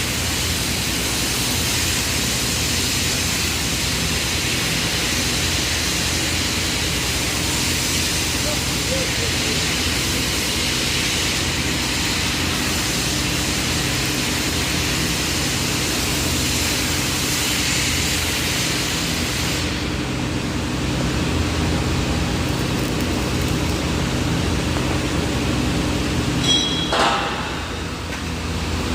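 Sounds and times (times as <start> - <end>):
low machine hum: 0.0 - 28.9
welding arc hissing: 0.0 - 28.9.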